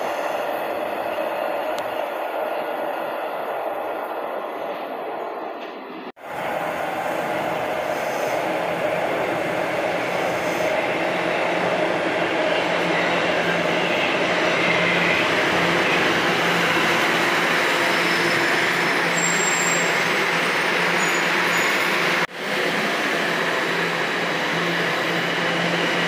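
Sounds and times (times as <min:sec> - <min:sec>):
subway train arriving: 0:00.0 - 0:26.0.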